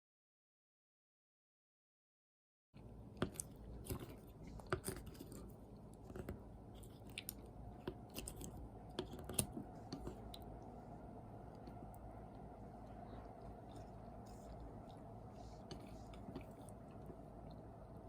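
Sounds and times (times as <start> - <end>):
close-up chewing: 3.2 - 18.0.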